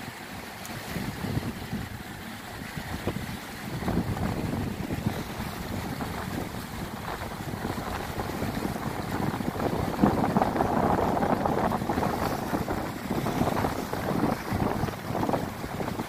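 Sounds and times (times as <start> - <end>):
sea waves breaking on rocks: 0.0 - 16.0
wind rumbling on microphone: 0.0 - 16.0.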